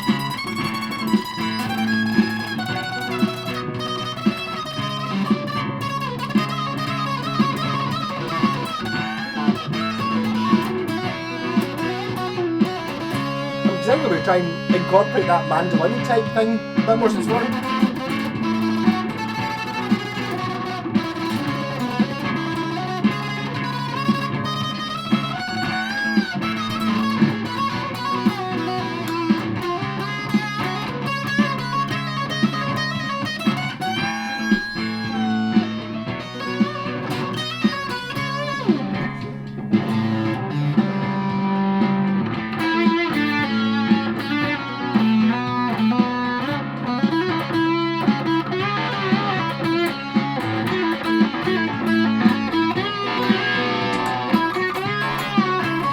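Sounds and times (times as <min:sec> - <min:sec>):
fuzzed electric guitar: 0:00.0 - 0:55.9.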